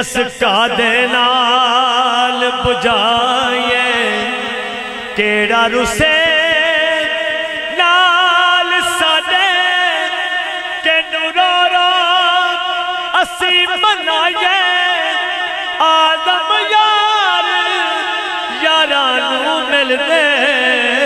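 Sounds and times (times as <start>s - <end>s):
man singing a lament: 0.0s - 21.0s.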